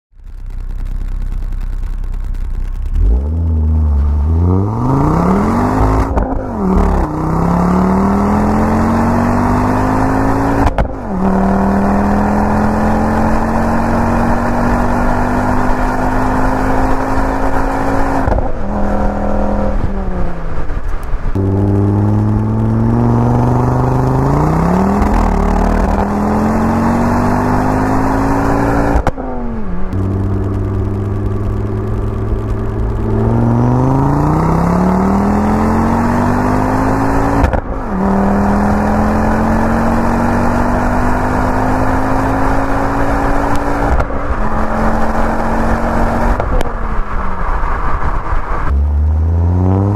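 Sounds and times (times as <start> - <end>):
car engine revving: 0.6 - 49.9.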